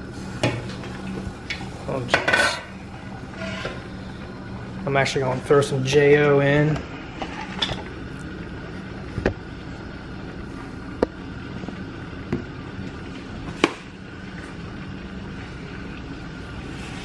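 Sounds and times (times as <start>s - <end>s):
stockpot steaming hum: 0.0s - 17.0s.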